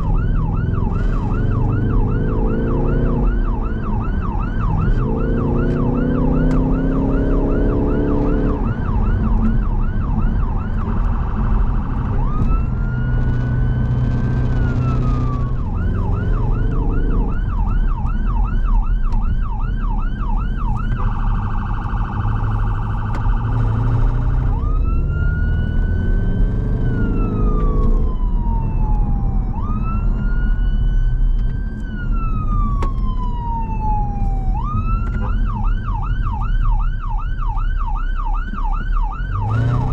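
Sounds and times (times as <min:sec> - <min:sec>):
car engine accelerating: 0:00.0 - 0:19.1, 0:19.7 - 0:32.7, 0:39.2 - 0:39.9
electronic siren cycling tones: 0:00.0 - 0:39.9
road noise: 0:00.0 - 0:39.9.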